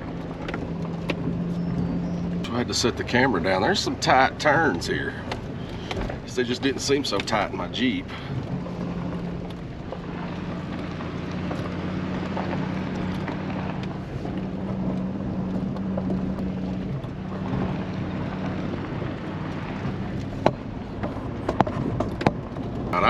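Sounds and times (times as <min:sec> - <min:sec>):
truck engine under load: 0:00.0 - 0:23.0
tyre road noise: 0:00.0 - 0:23.0.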